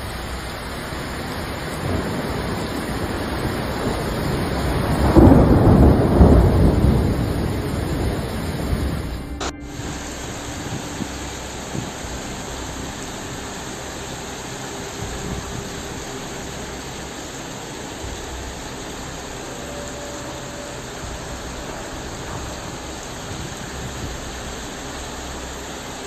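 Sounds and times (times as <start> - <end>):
low rumble: 0.0 - 26.0
rainstorm rushing: 0.0 - 26.0.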